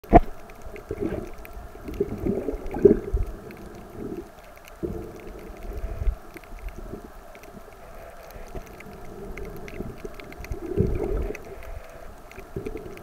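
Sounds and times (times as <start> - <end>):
underwater gurgling and rumbling: 0.0 - 13.0.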